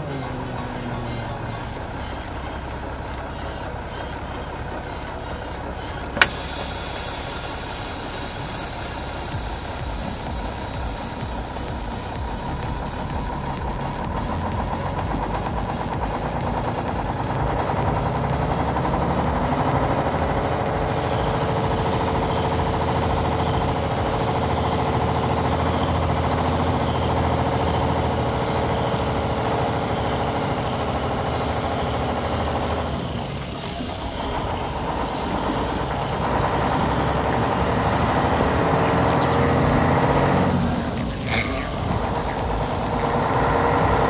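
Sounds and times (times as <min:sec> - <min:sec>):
motor running: 0:00.0 - 0:44.0.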